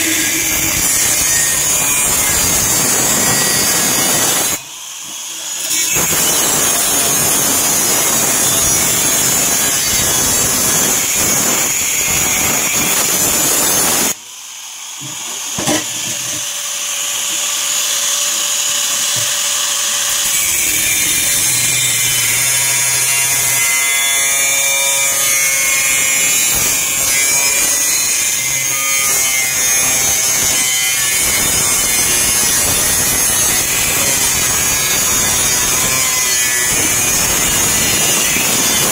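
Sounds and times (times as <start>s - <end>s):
harsh metal cutting noise: 0.0s - 38.9s.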